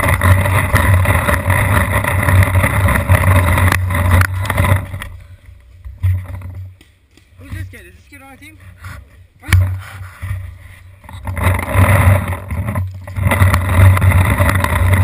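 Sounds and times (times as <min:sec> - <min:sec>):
wind rumble on microphone: 0:00.0 - 0:06.8, 0:08.7 - 0:15.0.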